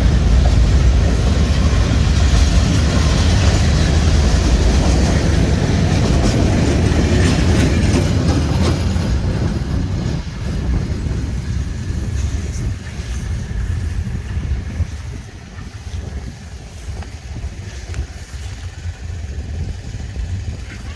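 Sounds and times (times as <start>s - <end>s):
train rumble: 0.0s - 20.9s
train wheels clacking: 0.0s - 20.9s.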